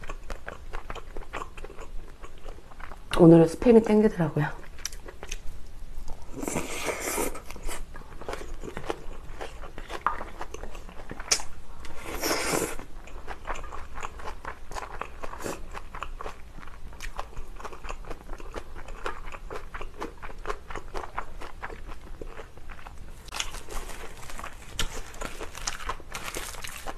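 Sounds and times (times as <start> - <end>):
close chewing with crackles: 0.0 - 3.2, 4.6 - 26.9.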